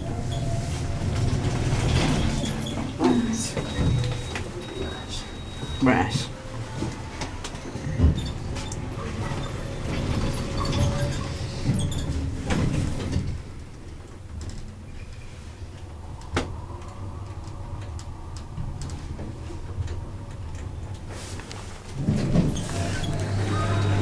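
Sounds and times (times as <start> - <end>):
lift car rumbling: 0.0 - 24.0
lift steady hum: 0.0 - 24.0.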